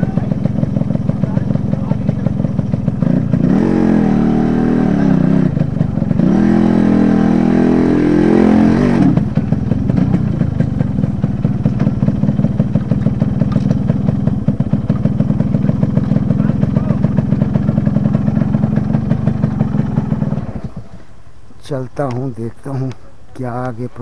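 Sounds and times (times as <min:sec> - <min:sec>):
motorcycle engine revving: 0:00.0 - 0:21.3.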